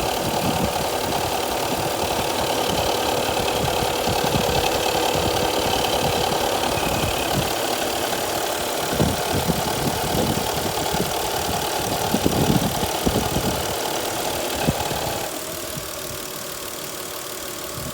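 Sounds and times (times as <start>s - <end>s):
cooling fan rattling and knocking: 0.0s - 15.3s
car engine running: 0.0s - 17.9s.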